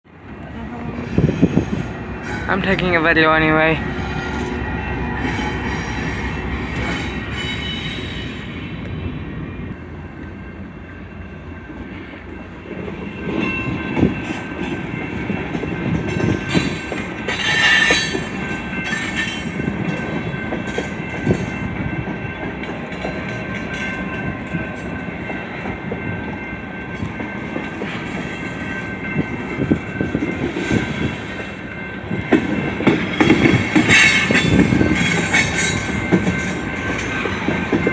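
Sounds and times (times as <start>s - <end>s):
train wheels rumbling over rails: 0.1s - 3.0s, 3.7s - 37.9s.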